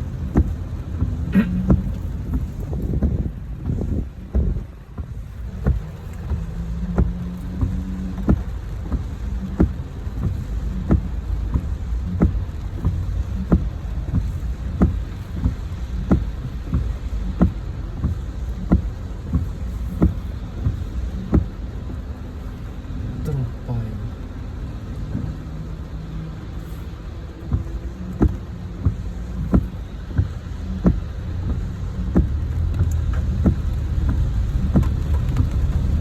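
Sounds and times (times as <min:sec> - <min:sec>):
vehicle rumble: 0:00.0 - 0:36.0.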